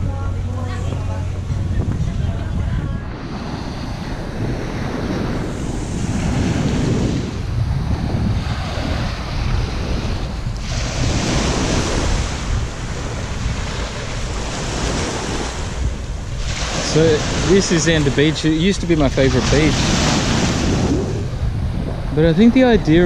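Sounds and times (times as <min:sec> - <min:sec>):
wind buffeting microphone: 0:00.0 - 0:23.0
small waves breaking on sand: 0:03.2 - 0:23.0.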